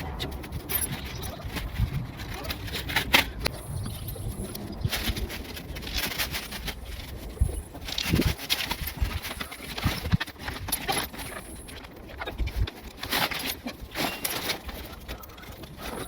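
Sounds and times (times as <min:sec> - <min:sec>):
handling clicks and knocks: 0:00.0 - 0:16.0
rustling: 0:00.0 - 0:16.0.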